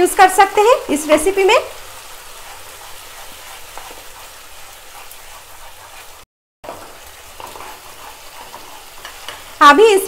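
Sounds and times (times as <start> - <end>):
spatula scraping wok: 0.0 - 10.0
vegetables sizzling in oil: 0.0 - 10.0.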